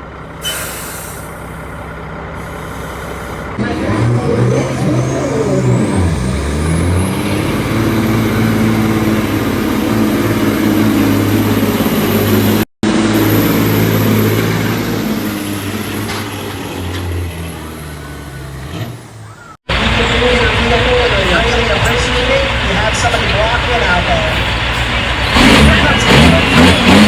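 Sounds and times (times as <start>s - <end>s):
diesel truck engine at high rpm: 0.0s - 27.0s.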